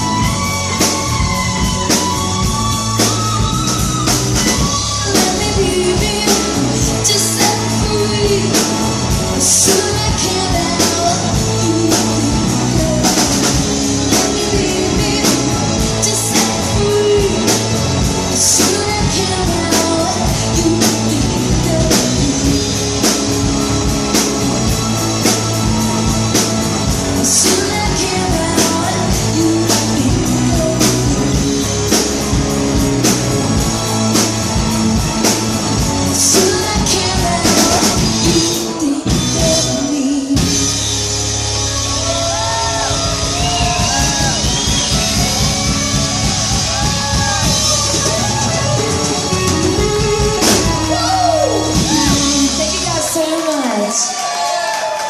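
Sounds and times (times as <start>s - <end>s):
rock song: 0.0s - 55.0s.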